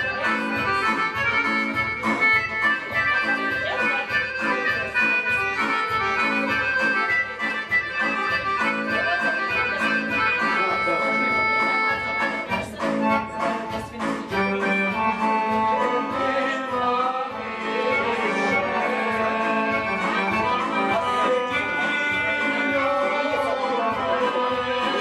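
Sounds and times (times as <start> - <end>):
electronic keyboard melody: 0.0 - 25.0
steady backing beat: 0.0 - 25.0.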